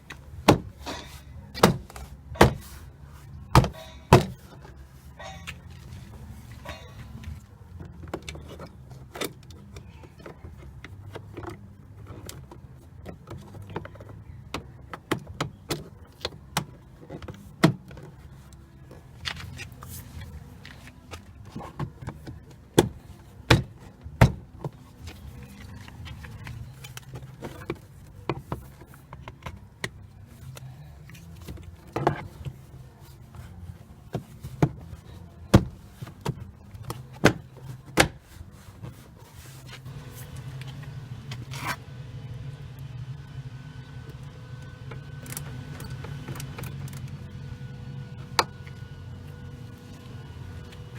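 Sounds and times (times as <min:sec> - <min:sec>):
low steady hum: 0:00.0 - 0:50.9.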